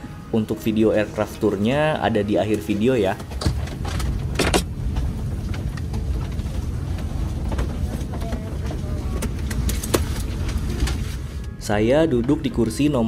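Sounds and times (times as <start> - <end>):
aircraft cabin air-conditioning rumble: 0.0 - 13.0.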